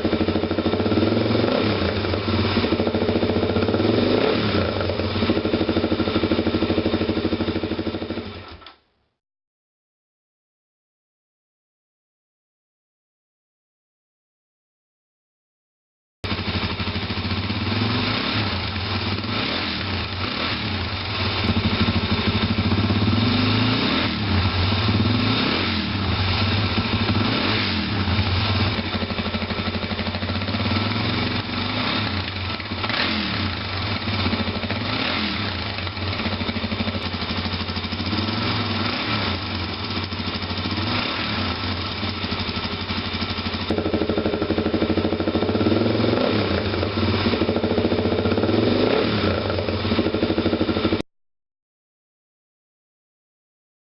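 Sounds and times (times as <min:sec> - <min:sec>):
motorcycle engine idling: 0:00.0 - 0:08.6, 0:16.2 - 0:51.0.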